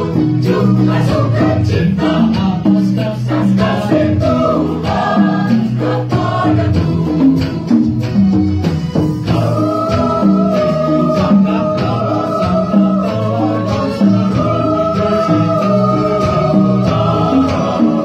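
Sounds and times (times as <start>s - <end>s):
choir singing in harmony: 0.0s - 18.0s
rhythmic accompaniment: 0.0s - 18.0s.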